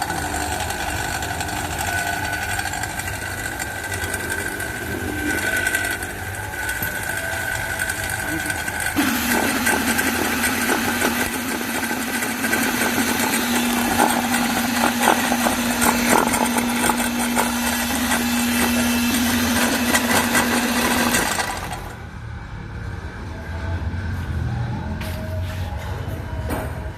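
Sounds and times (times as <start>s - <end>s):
small engine humming: 0.0s - 22.2s.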